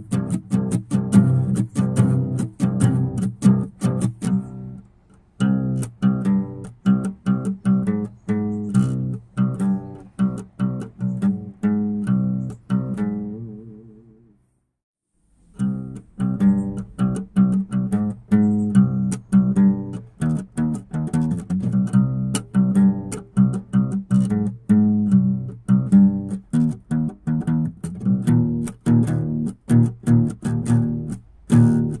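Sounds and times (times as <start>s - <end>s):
plucked guitar music: 0.0s - 14.4s, 15.5s - 32.0s.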